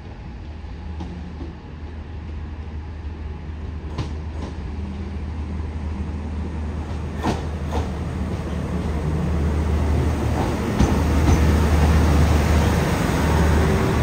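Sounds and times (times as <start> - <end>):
diesel train engine hum: 0.0 - 14.0.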